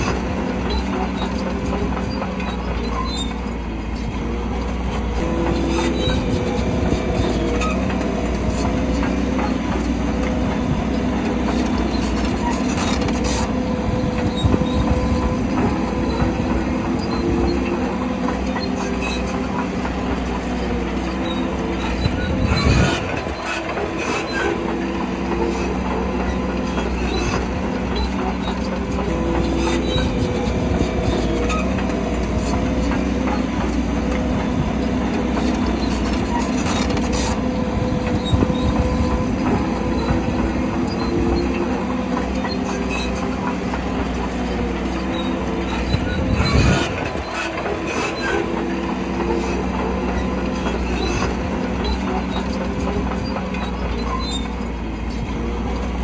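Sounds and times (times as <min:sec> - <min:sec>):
bulldozer diesel engine: 0:00.0 - 0:56.0
steel tracks squealing and clattering: 0:00.0 - 0:56.0.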